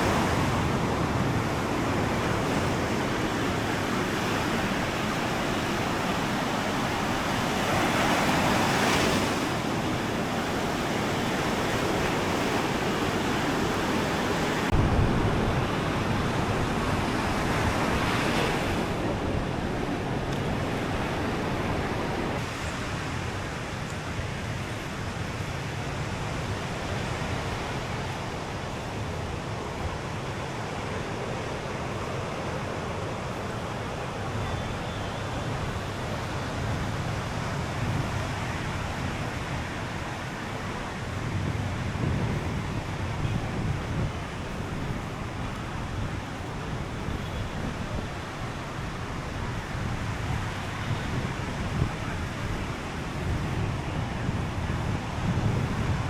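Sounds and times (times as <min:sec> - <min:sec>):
sea surf on a beach: 0:00.0 - 0:56.0.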